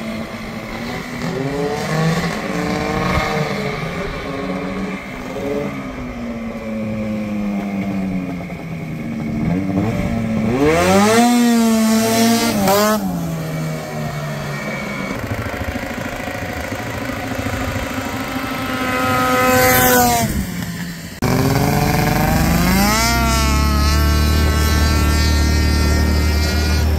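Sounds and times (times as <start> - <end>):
two-stroke engine revving: 0.0 - 5.8, 8.5 - 26.9.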